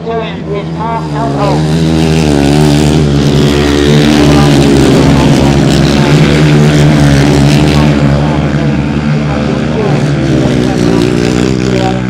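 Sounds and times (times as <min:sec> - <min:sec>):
racing motorcycle engines: 0:00.0 - 0:12.0.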